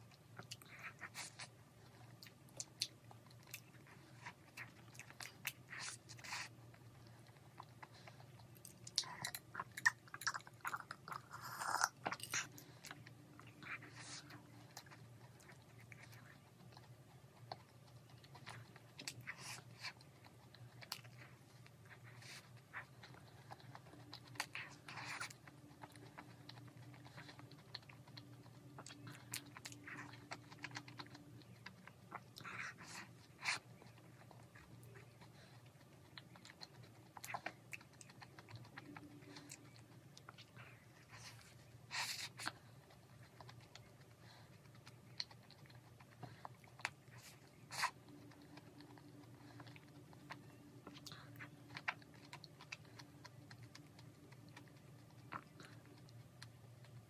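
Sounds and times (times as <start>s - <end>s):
crunchy chewing: 0.0s - 57.0s
faint low hum: 0.0s - 57.0s.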